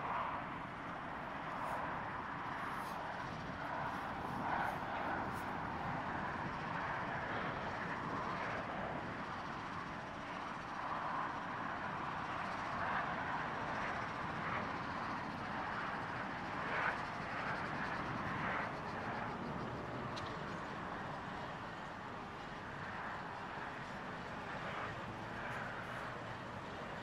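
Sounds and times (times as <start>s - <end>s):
cooling fan noise: 0.0s - 27.0s.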